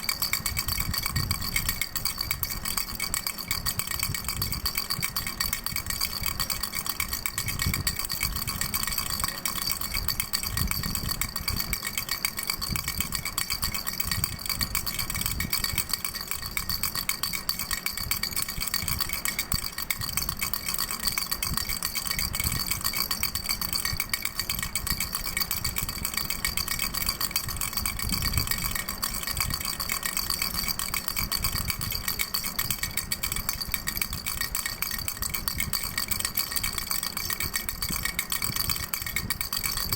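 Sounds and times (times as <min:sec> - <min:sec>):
baby rattle shaken fast: 0:00.0 - 0:39.9.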